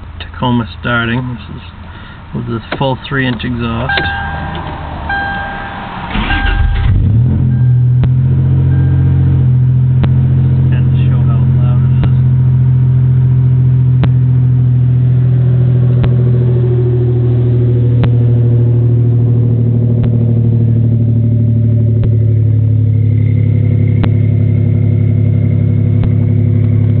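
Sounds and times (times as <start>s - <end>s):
truck engine idling high: 1.7s - 27.0s.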